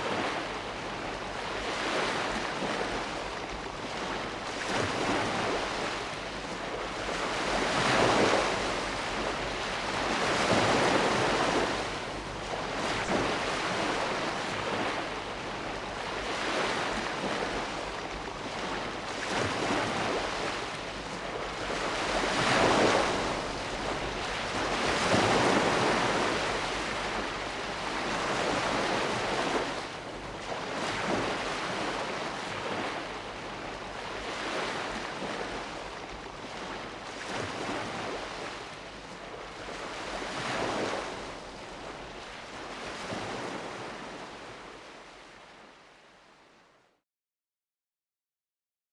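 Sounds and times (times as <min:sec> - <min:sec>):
sea waves breaking on shore: 0:00.0 - 0:46.8.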